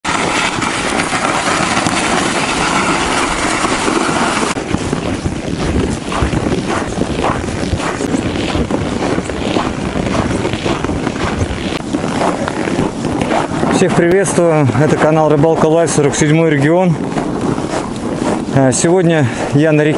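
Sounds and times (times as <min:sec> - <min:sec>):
footsteps crunching in snow: 0:00.0 - 0:19.9
sled towed over snow: 0:00.0 - 0:19.9
wind on microphone: 0:00.0 - 0:19.9.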